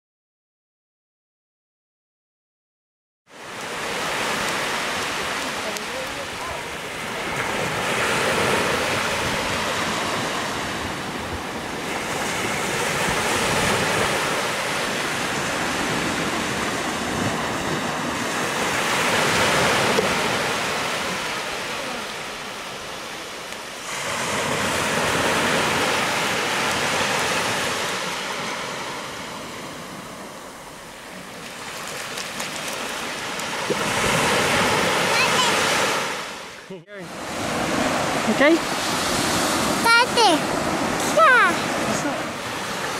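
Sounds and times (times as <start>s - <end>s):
small waves breaking on beach: 3.3s - 42.9s.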